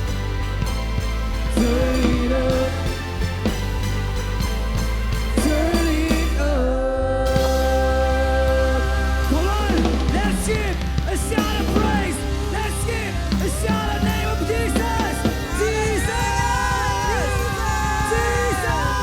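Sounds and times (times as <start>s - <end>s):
rock band worship music: 0.0s - 19.0s.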